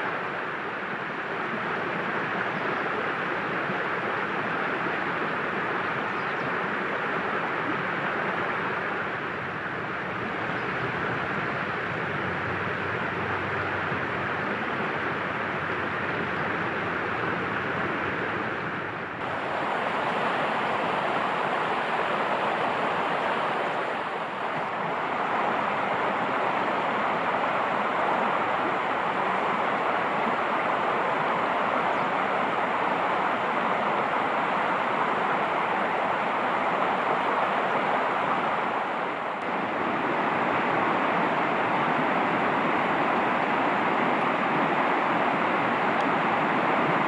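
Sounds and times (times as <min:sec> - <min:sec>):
flowing water rushing: 0:00.0 - 0:47.0.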